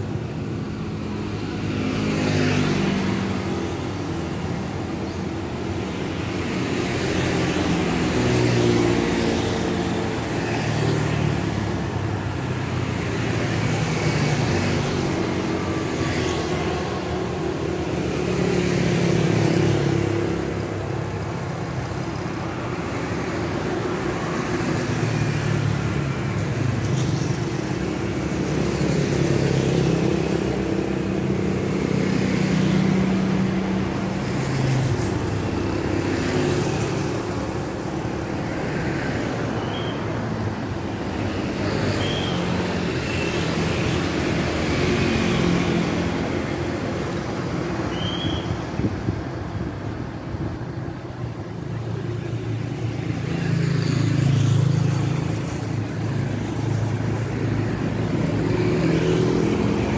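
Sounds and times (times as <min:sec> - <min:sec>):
motorcycles passing: 0:00.0 - 0:59.9
steady traffic hum: 0:00.0 - 0:59.9.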